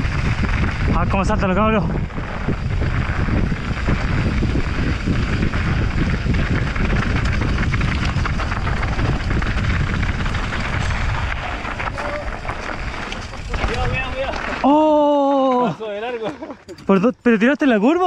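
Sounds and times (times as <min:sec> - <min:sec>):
wind rushing over microphone: 0:00.0 - 0:15.0
bike rattling over rough trail: 0:00.0 - 0:18.0.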